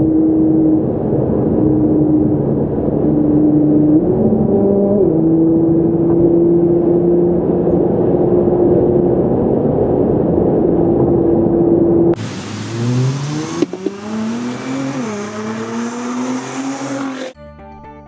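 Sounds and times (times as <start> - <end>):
car engine drone inside cabin: 0.0 - 17.4.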